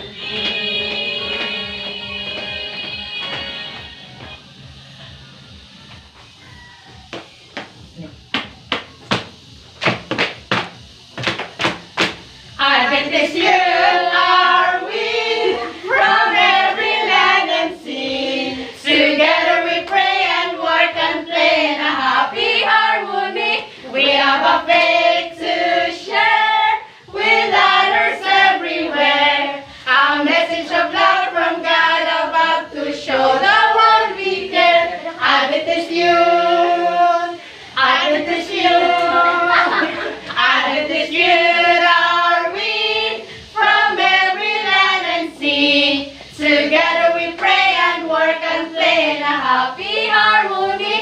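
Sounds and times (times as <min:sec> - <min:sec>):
group singing together: 0:00.0 - 0:05.7, 0:11.2 - 0:51.0.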